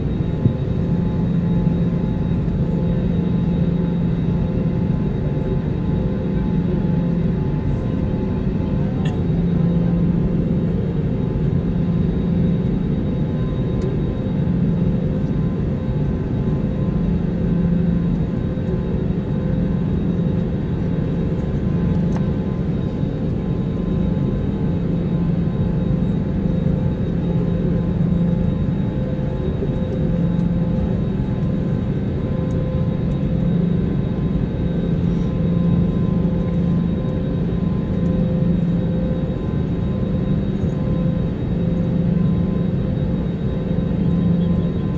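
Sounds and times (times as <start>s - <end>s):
jet engines idling: 0.0s - 44.9s.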